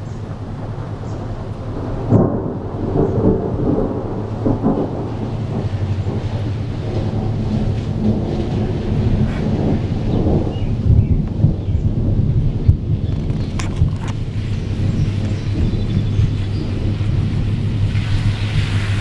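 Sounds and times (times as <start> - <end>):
rolling thunder: 0.0 - 19.0.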